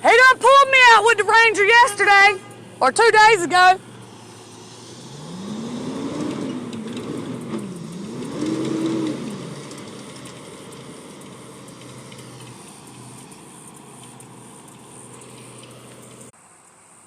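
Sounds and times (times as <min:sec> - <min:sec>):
truck engine revving: 0:00.0 - 0:16.3.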